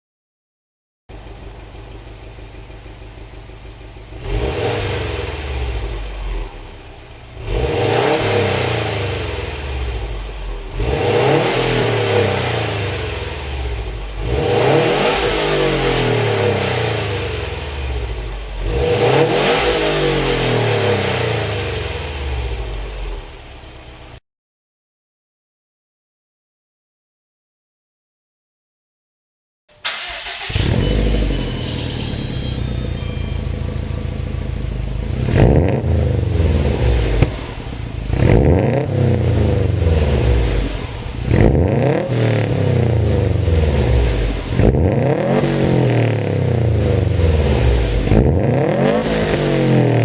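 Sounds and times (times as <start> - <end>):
car engine idling and revving: 1.1 - 24.2, 29.8 - 50.0.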